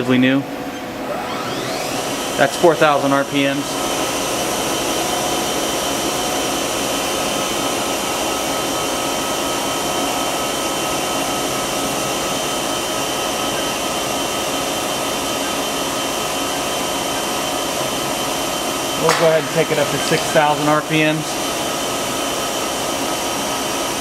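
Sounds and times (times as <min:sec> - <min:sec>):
machine spindle whine: 0:00.6 - 0:24.0.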